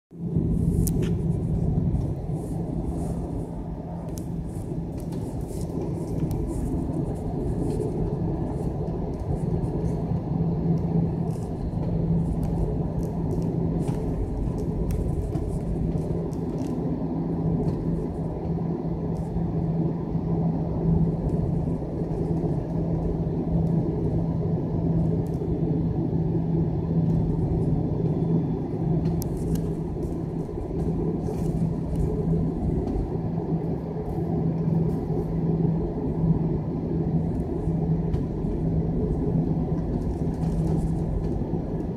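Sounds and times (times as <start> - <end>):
aircraft cabin drone: 0.1 - 41.9.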